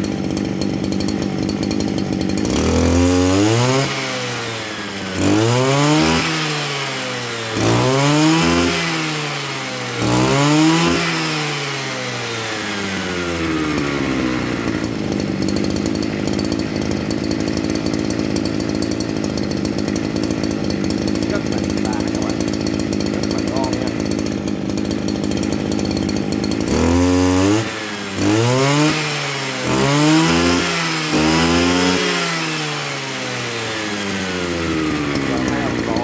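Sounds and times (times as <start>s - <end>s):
brush cutter engine idling and revving: 0.0s - 36.0s.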